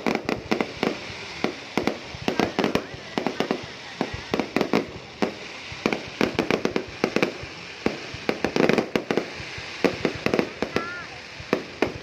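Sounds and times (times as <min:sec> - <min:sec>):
fireworks shells bursting: 0:00.0 - 0:12.0.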